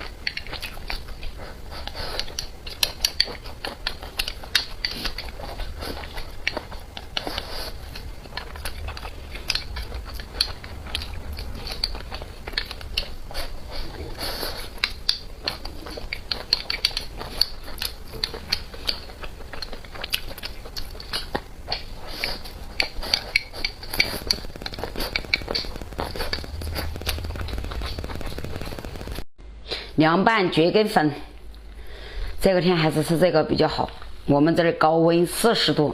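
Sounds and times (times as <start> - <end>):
person chewing and biting: 0.0 - 29.2
mouth clicks and smacks: 0.0 - 29.8.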